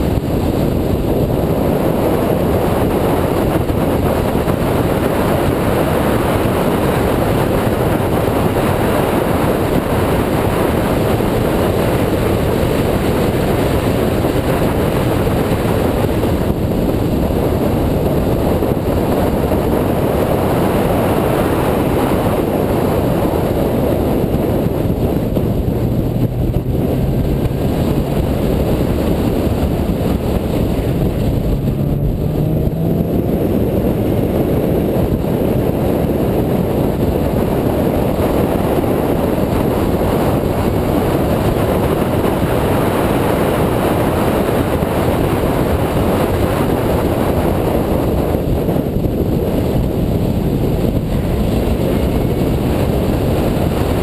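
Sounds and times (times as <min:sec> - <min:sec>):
car engine accelerating: 0:00.0 - 0:54.0
road noise: 0:00.0 - 0:54.0
wind rushing: 0:00.0 - 0:54.0.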